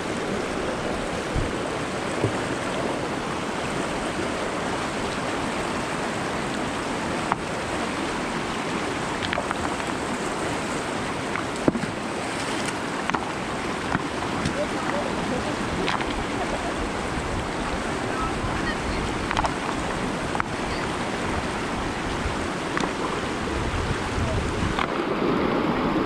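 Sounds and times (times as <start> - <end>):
river rushing over stones: 0.0 - 26.0.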